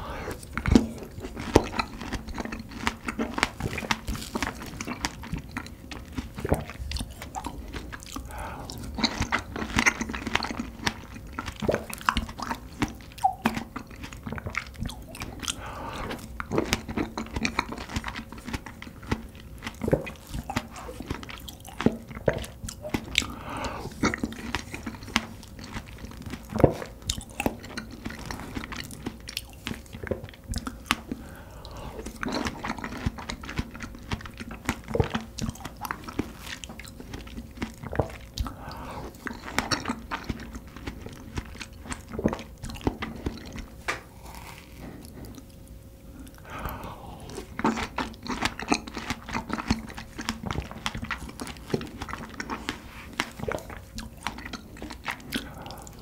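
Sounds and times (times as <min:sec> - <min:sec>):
chewing and biting strawberries: 0:00.0 - 0:56.0
wet mouth sounds: 0:00.0 - 0:56.0.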